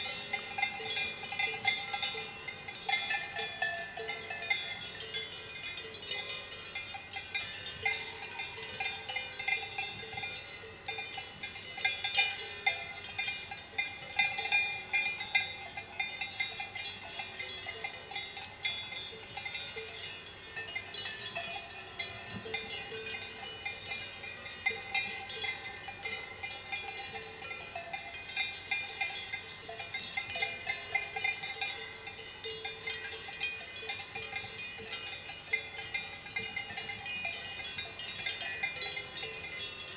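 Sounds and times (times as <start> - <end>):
cowbells clanking: 0.0 - 39.9.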